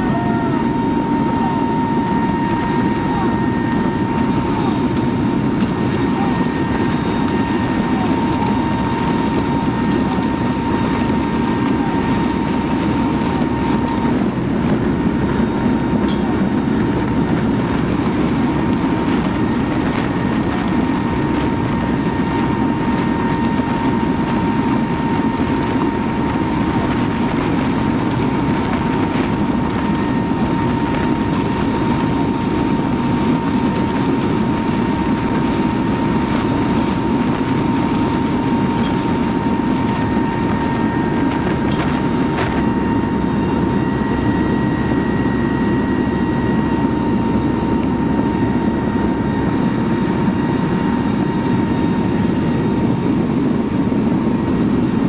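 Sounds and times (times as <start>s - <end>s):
aircraft engines droning: 0.0s - 55.0s
thin steady whine: 0.0s - 55.0s.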